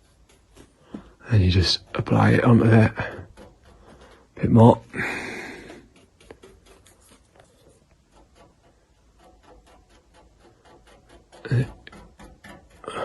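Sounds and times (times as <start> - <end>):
paintbrush strokes on metal panel: 0.0 - 13.0.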